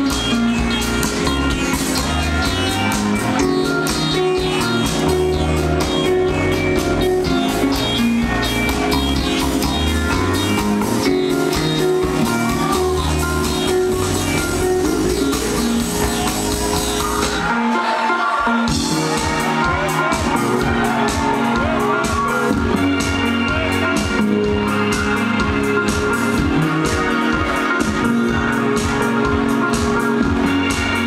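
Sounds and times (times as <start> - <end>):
bass: 0.0 - 17.8, 18.4 - 31.0
drums: 0.0 - 31.0
electric guitar: 0.0 - 31.0
keyboards: 0.0 - 31.0.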